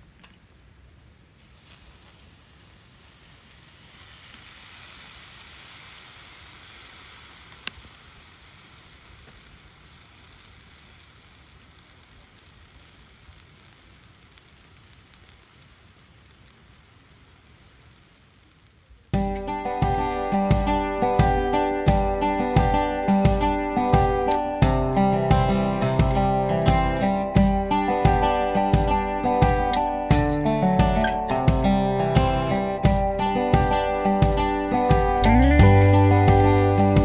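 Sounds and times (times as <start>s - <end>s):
food sizzling in a hot pan: 1.3s - 37.0s.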